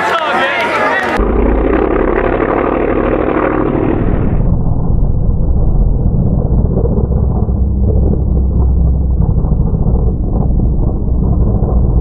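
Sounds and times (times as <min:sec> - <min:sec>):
slowed truck engine rumble: 0:01.1 - 0:12.0.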